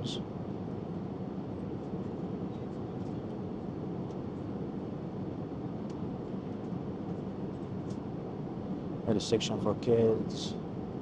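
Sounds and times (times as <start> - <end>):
airliner cabin noise: 0.0 - 11.0.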